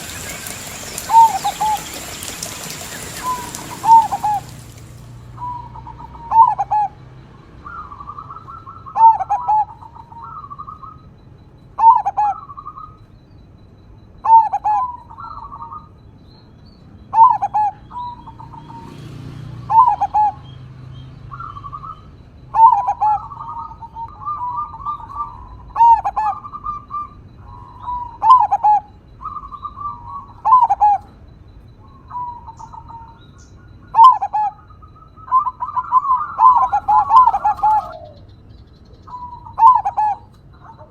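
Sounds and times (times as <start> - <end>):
dove cooing: 0.0 - 13.0, 14.0 - 16.0, 17.0 - 40.9.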